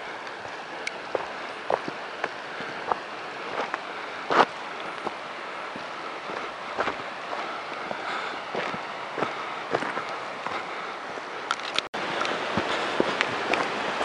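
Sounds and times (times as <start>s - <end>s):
footsteps on rock and gravel: 0.0s - 14.0s
steady hiss: 0.0s - 14.0s.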